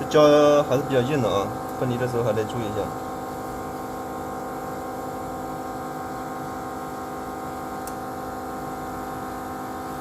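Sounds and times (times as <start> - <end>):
machine electrical hum: 0.0 - 10.0.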